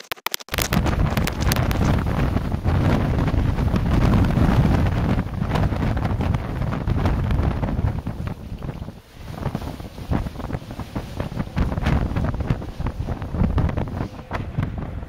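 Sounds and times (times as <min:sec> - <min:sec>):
strong wind buffeting microphone: 0:00.6 - 0:15.0.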